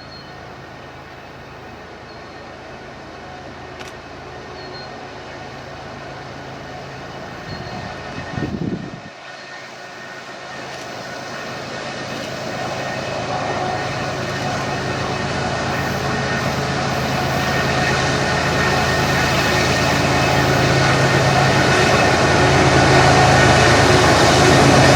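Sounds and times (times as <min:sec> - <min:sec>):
locomotive engine drone: 0:00.0 - 0:24.9
train rail noise: 0:00.0 - 0:24.9.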